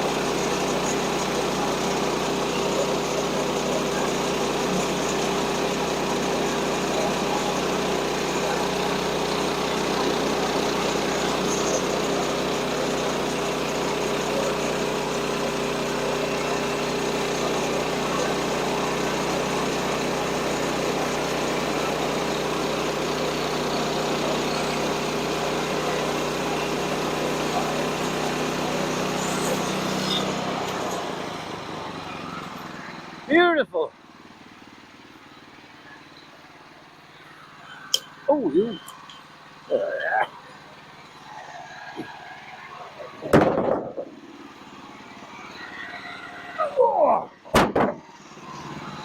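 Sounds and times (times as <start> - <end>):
band sawmill gasoline engine running: 0.0 - 49.0.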